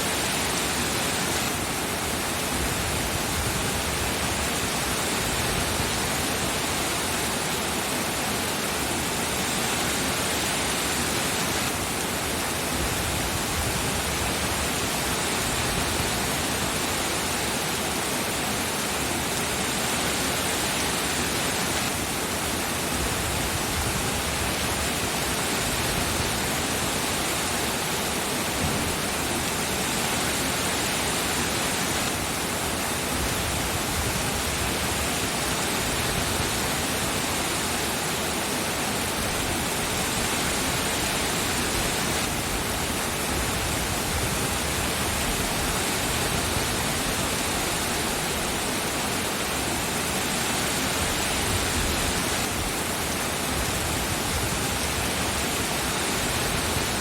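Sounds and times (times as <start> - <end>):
steady dense rain: 0.0 - 57.0.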